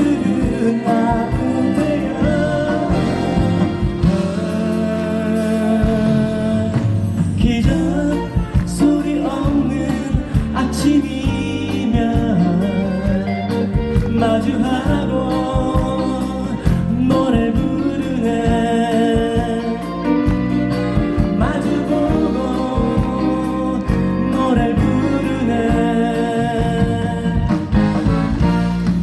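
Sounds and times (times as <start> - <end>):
person singing: 0.0 - 28.0
band playing soft rock: 0.0 - 29.0.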